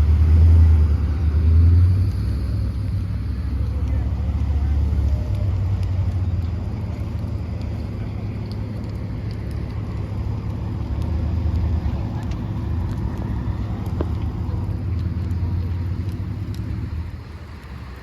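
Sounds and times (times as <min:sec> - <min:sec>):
road noise: 0:00.0 - 0:18.0
truck diesel engine rumble: 0:00.0 - 0:18.0.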